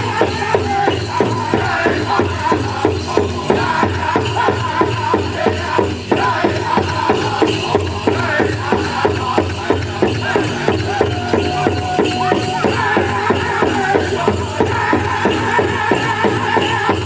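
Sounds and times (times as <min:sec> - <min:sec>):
big drum fast beat: 0:00.0 - 0:17.0
high group singing: 0:00.0 - 0:17.0.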